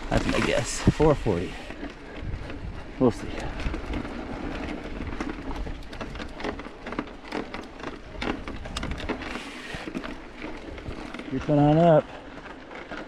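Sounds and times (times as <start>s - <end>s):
bike tyres crunching on gravel: 0.0s - 13.0s.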